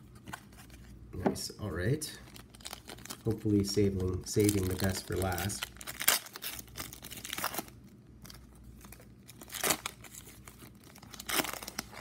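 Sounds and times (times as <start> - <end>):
foil wrapper crinkling and tearing: 2.1 - 12.0.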